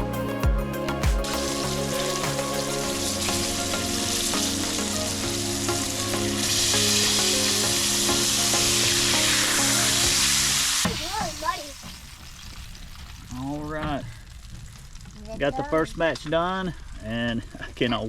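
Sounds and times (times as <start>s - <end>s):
fish sizzling in a pan: 1.2s - 17.1s.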